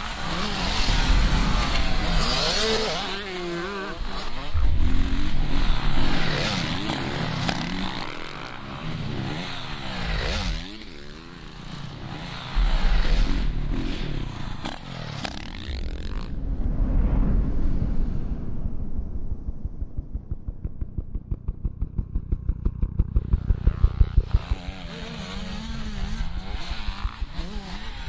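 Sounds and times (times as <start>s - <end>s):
motocross engines revving and passing: 0.0s - 16.4s, 21.4s - 28.0s.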